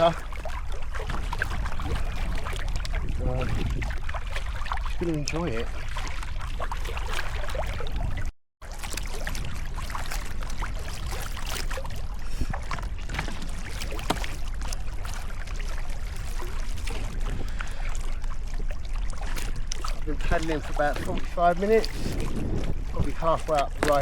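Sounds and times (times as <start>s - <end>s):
wind buffeting microphone: 0.0s - 8.3s, 8.9s - 24.0s
paddle splashing in water: 0.0s - 24.0s.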